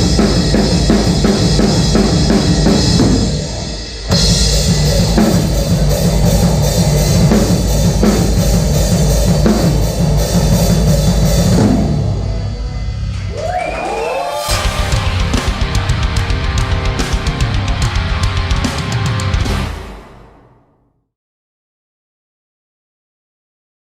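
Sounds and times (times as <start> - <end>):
rock music: 0.0 - 20.7.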